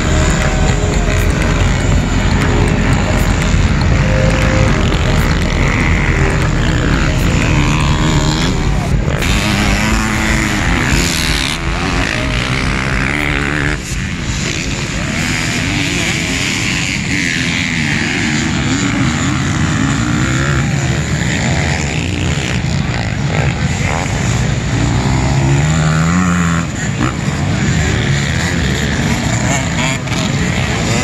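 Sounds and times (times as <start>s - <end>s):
dirt bike engines racing: 0.0s - 31.0s.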